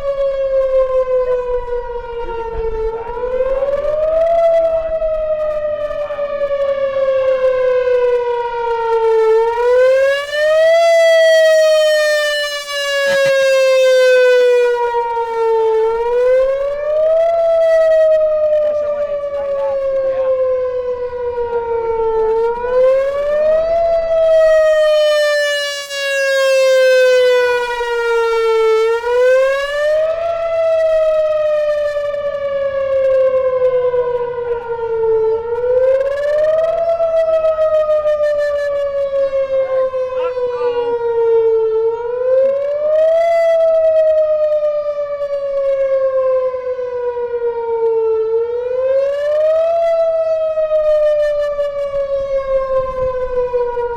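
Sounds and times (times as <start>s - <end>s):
warning siren rising and falling: 0.0s - 53.9s.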